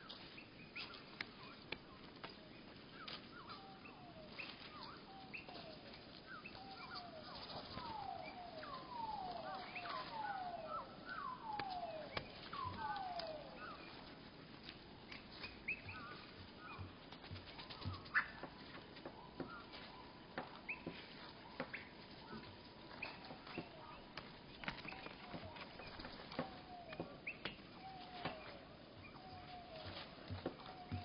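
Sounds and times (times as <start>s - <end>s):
slowed deep bird calls: 0.0s - 31.0s.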